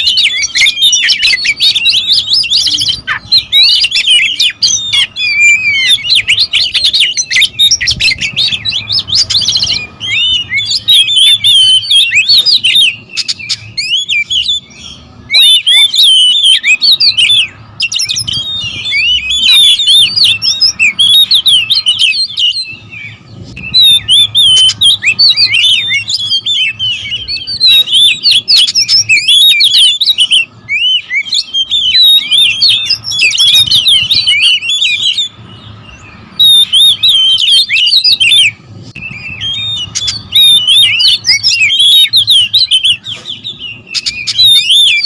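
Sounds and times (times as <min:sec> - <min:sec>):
birds chirping and whistling: 0:00.0 - 0:45.0.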